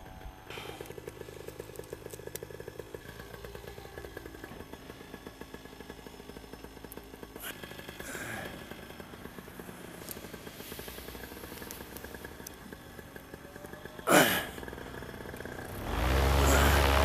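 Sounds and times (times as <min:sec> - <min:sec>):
paramotor engine idling: 0:00.0 - 0:17.0.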